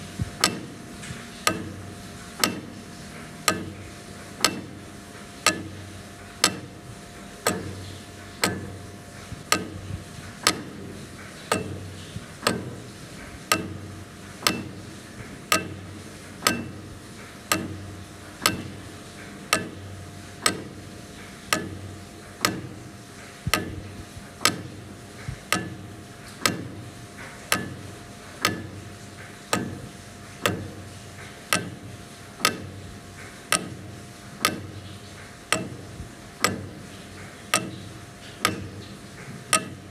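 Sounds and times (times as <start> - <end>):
pendulum clock ticking: 0.2 - 0.8, 1.4 - 1.8, 2.4 - 4.8, 5.4 - 6.8, 7.4 - 8.8, 9.4 - 12.9, 13.5 - 14.9, 15.5 - 26.9, 27.5 - 28.9, 29.5 - 30.9, 31.5 - 32.9, 33.5 - 39.9.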